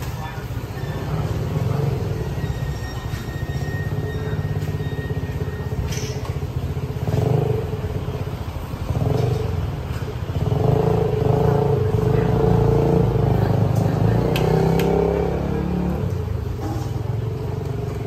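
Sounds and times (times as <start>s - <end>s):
passing traffic engine rumble: 0.0s - 18.0s.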